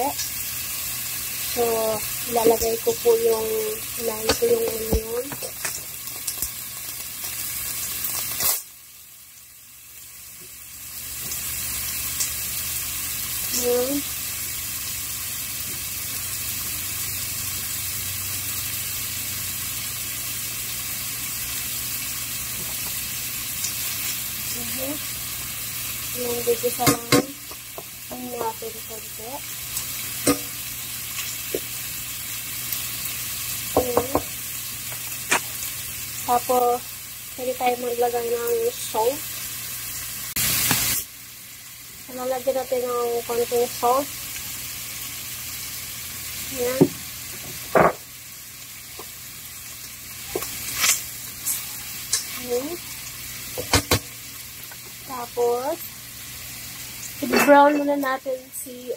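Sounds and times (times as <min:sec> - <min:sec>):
onion hissing into a pan: 0:00.0 - 0:58.9
shrimp sizzling in hot oil: 0:00.0 - 0:58.9.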